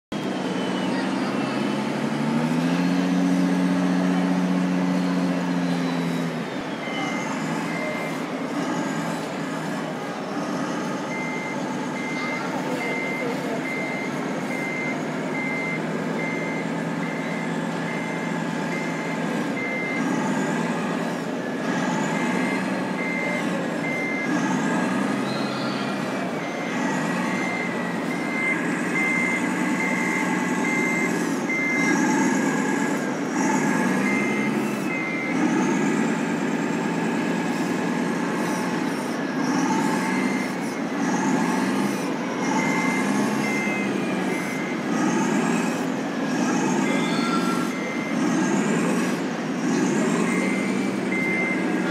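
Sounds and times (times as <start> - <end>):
steady background din: 0.1 - 51.9
reversing beeper: 0.2 - 51.9.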